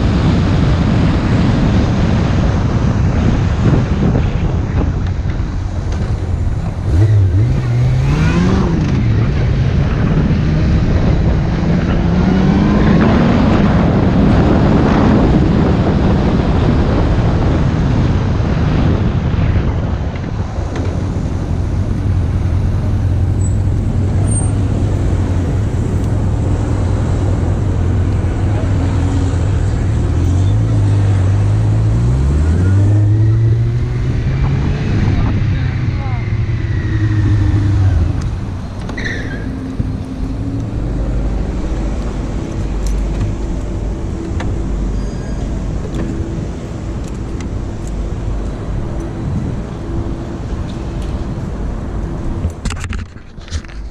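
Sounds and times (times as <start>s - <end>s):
wind and road noise: 0.0s - 53.9s
motorcycle engine accelerating: 3.2s - 52.7s.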